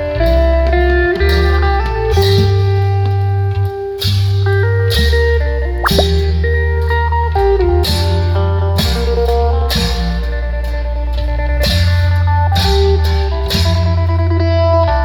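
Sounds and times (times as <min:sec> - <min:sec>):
drum and cymbal strikes: 0:01.2 - 0:14.2.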